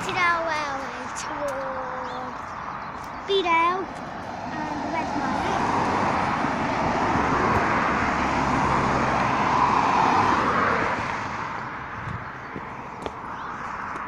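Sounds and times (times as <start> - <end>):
cars passing on a road: 0.0 - 14.0.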